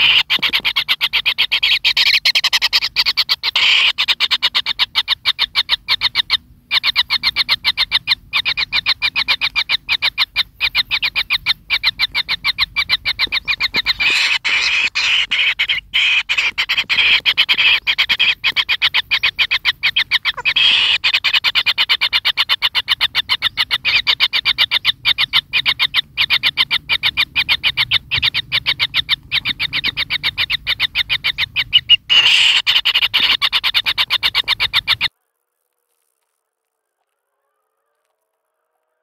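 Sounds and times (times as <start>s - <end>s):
nestlings chirping rapidly: 0.0s - 35.1s.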